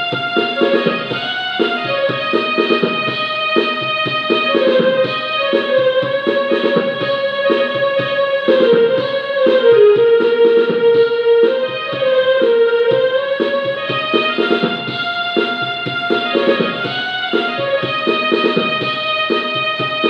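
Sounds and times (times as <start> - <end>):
electronic keyboard melody: 0.0 - 19.9.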